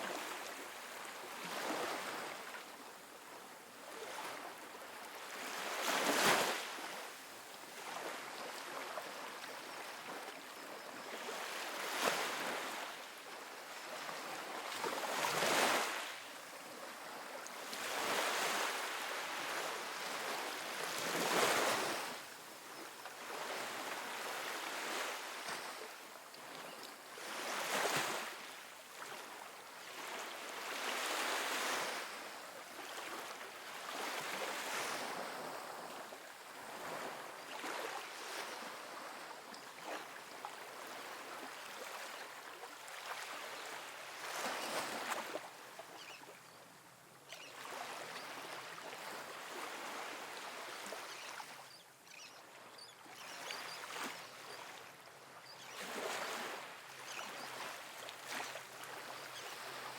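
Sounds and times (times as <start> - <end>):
waves breaking on sandy beach: 0.0 - 46.4, 47.3 - 51.7, 52.4 - 59.9.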